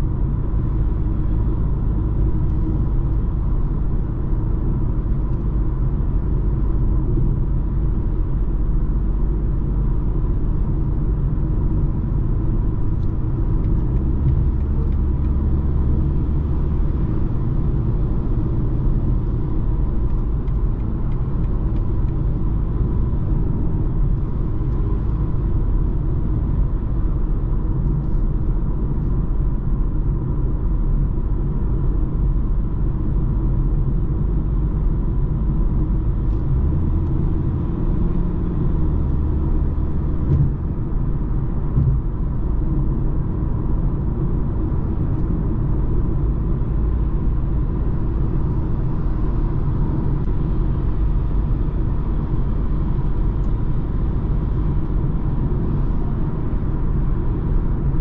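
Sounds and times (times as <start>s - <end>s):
engine and tyre rumble: 0.0s - 58.0s.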